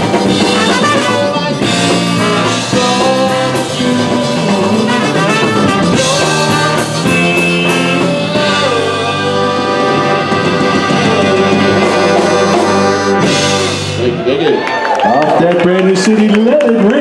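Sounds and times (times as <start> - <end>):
drum kit: 0.0 - 14.3
polka band brass: 0.0 - 14.3.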